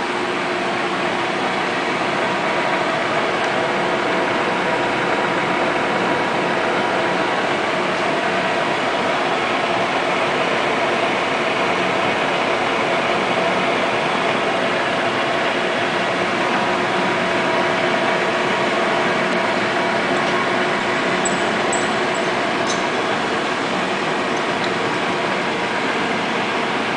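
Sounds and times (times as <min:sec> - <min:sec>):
metal lathe whirring: 0:00.0 - 0:26.9.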